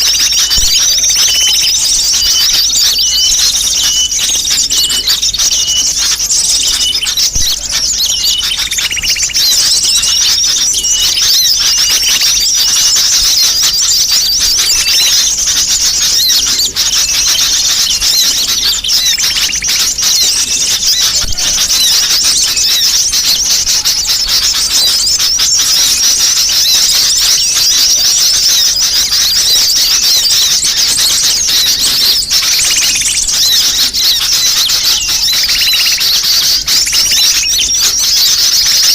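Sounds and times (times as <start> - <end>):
flock of small birds twittering: 0.0 - 38.9.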